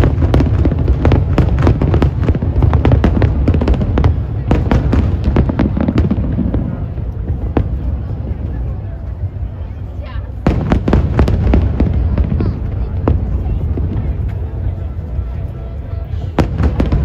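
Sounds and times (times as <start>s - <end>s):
fireworks bangs: 0.0s - 9.5s, 10.1s - 17.0s
deep continuous rumble: 0.0s - 17.0s.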